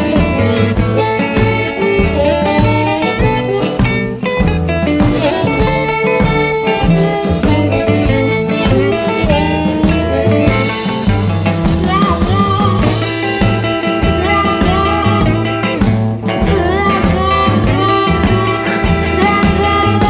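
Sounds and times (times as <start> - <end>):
electric blues band playing: 0.0 - 20.0
harmonica lead: 0.0 - 20.0.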